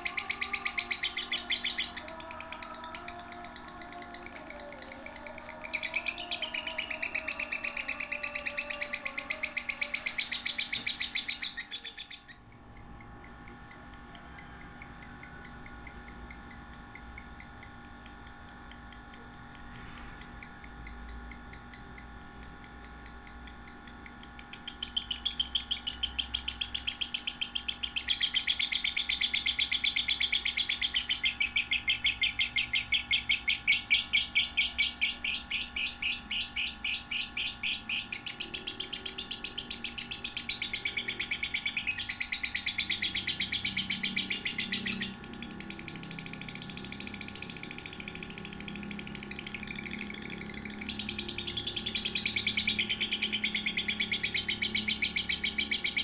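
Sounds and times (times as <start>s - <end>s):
lovebird chattering chirps: 3.4s - 56.0s.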